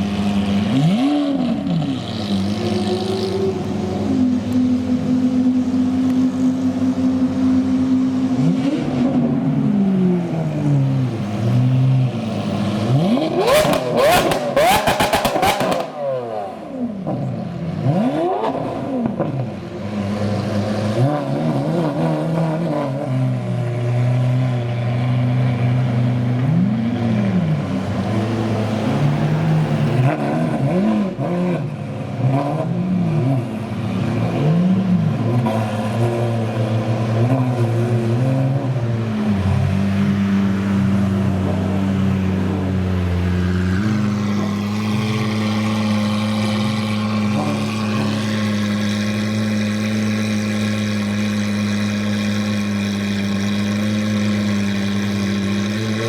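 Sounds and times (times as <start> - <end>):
car engines revving and idling: 0.0 - 56.0.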